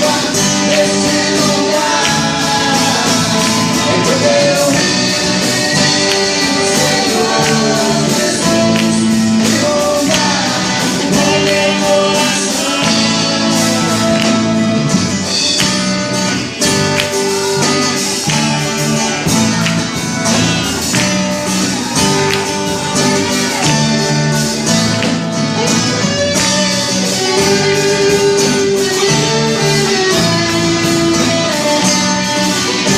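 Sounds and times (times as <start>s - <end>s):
gospel singers with band: 0.0s - 32.9s.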